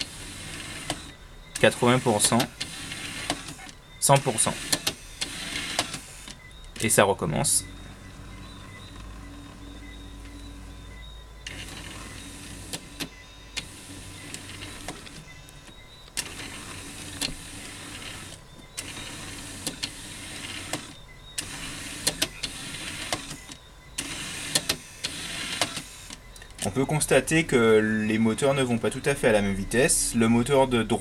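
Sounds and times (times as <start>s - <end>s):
sharp clicks: 0.0s - 7.0s, 7.6s - 27.0s
small motors whirring: 0.0s - 30.6s.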